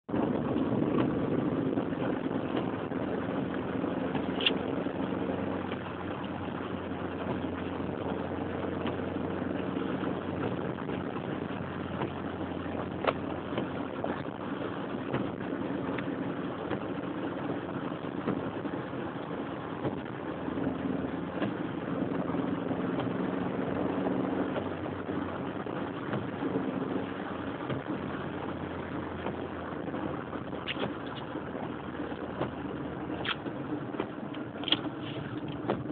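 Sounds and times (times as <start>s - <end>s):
car engine and tyre noise: 0.0s - 35.9s.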